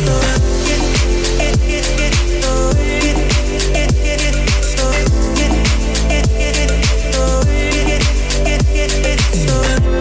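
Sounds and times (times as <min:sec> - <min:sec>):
deep kick drums: 0:00.0 - 0:10.0
hi-hats: 0:00.0 - 0:10.0.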